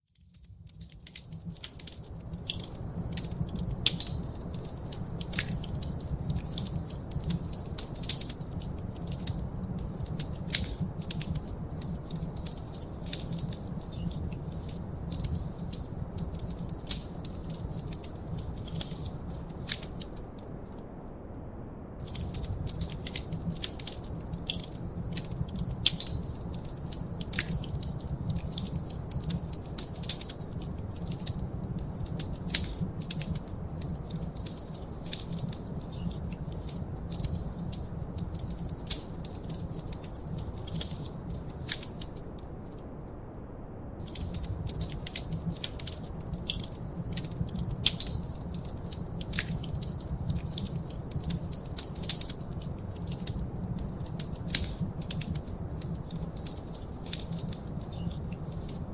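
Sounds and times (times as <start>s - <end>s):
wood fire crackling: 0.1s - 21.4s, 22.0s - 43.4s, 44.0s - 58.9s.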